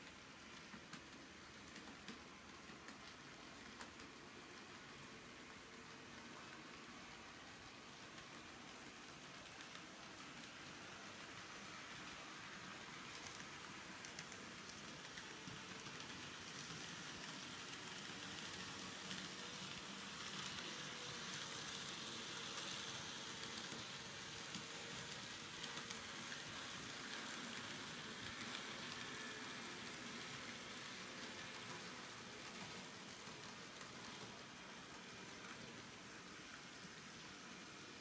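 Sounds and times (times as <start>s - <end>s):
model train rolling hiss: 4.5s - 38.0s.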